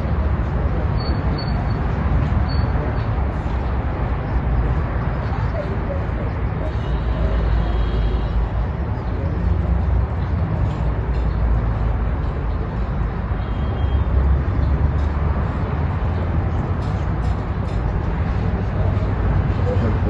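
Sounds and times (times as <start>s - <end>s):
motor vehicle rumble: 0.0s - 20.0s
road noise: 0.0s - 20.0s.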